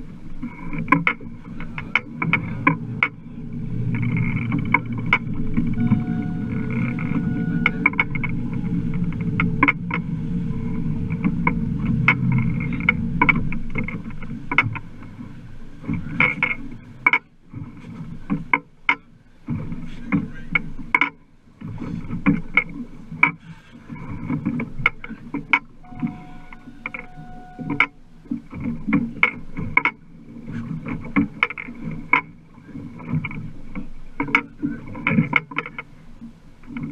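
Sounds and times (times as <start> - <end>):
boat low rumble: 0.0 - 36.9.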